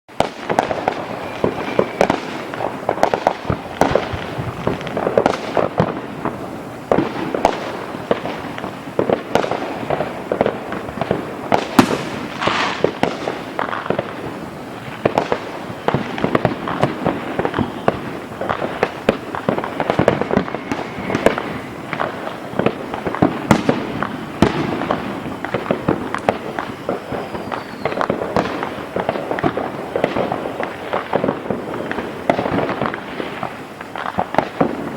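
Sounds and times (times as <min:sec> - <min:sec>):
fireworks bursts and bangs: 0:00.1 - 0:34.9
fireworks crackling: 0:00.1 - 0:34.9
fireworks whistles: 0:00.1 - 0:34.9.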